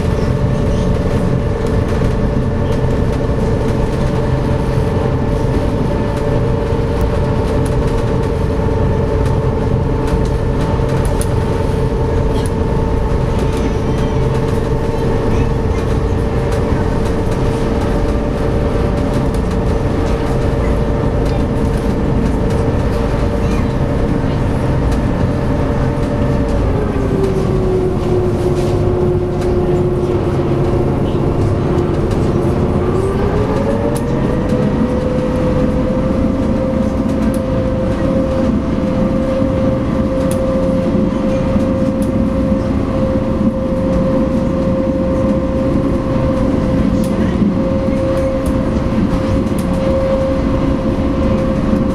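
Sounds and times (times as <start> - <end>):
ferry engines droning: 0.0 - 51.9.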